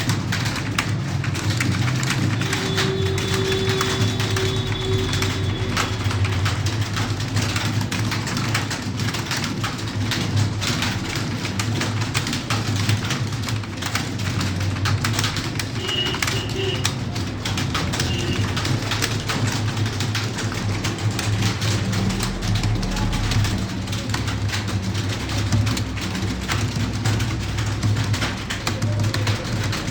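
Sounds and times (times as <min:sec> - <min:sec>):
fast typing on keyboard: 0:00.0 - 0:29.9.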